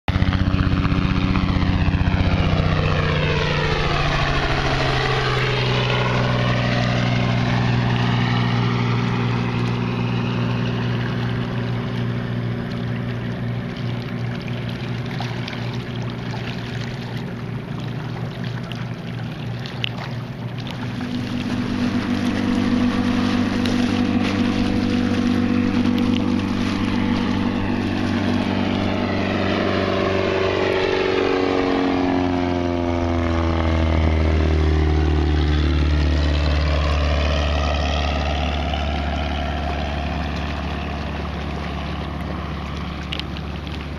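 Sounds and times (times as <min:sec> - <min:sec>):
engine droning over water: 0:00.1 - 0:43.9
phasing pass-by: 0:00.1 - 0:43.9.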